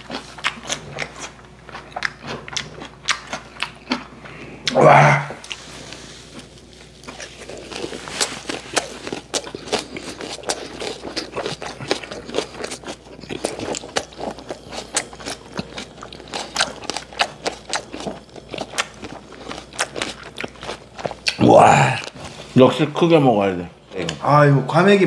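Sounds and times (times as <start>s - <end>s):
person chewing crunchy food: 0.0s - 22.6s.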